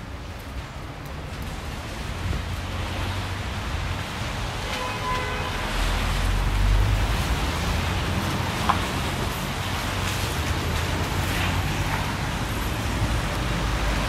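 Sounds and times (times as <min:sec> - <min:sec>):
tyres hissing on wet road: 0:00.0 - 0:14.0.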